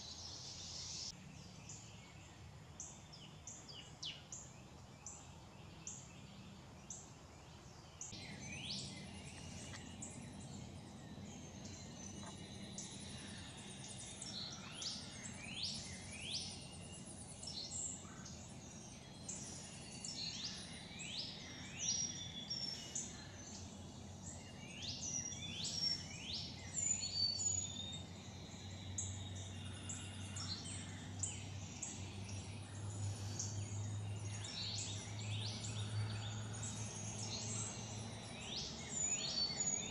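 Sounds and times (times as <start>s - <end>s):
background hiss: 0.0s - 39.9s
songbirds singing and calling: 0.0s - 39.9s
low steady hum: 1.1s - 39.9s.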